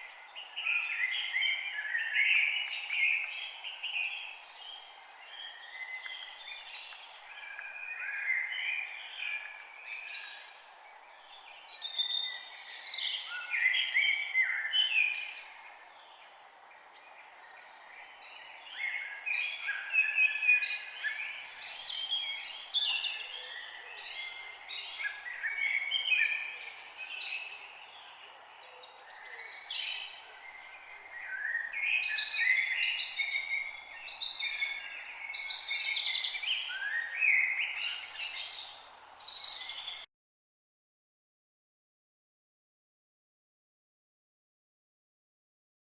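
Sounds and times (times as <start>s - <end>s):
songbirds chirping and singing: 0.0s - 40.1s.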